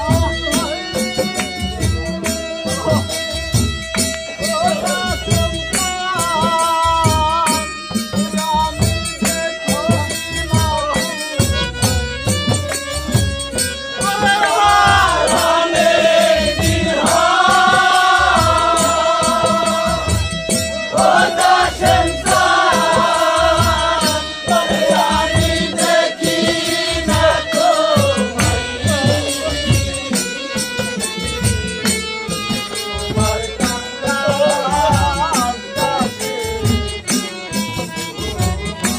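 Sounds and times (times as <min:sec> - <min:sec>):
harmonium drone and melody: 0:00.0 - 0:38.9
rattling hand percussion: 0:00.0 - 0:38.9
steady drum beat: 0:00.0 - 0:38.9.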